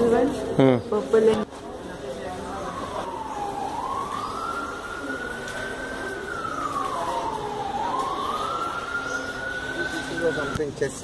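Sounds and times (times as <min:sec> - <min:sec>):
wailing siren: 0:01.9 - 0:10.9.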